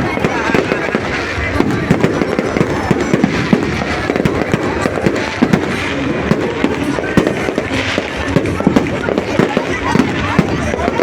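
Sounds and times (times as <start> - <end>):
bonfire crackling and popping: 0.0 - 11.0
flames rushing: 0.0 - 11.0.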